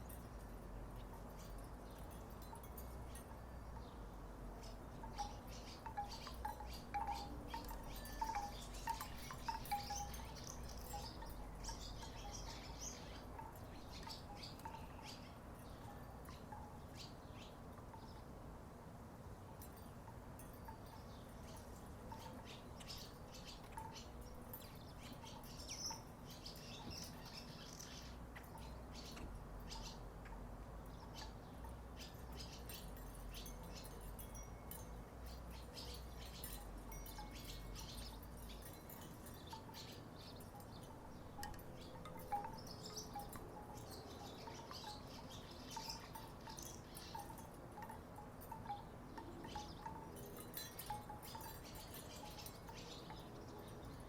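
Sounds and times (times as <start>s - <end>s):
wooden wind chimes clacking: 0.0s - 18.4s, 19.5s - 54.0s.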